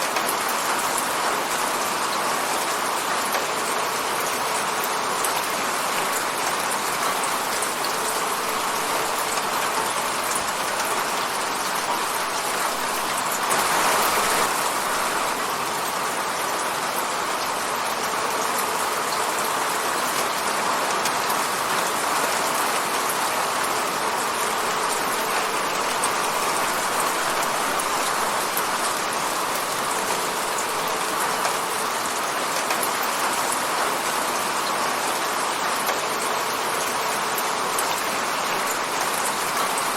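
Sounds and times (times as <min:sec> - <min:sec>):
rain hitting a window pane: 0:00.0 - 0:39.9.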